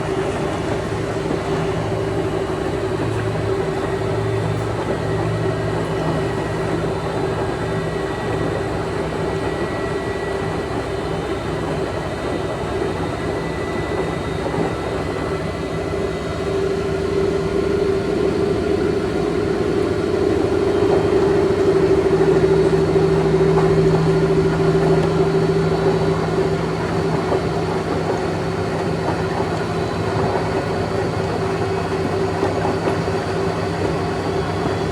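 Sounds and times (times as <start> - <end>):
washing machine spin cycle hum: 0.0 - 34.9.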